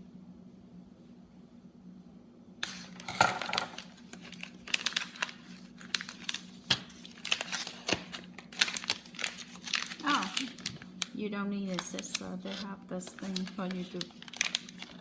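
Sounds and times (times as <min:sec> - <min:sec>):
packaging crinkling and crackling: 0:02.6 - 0:15.0.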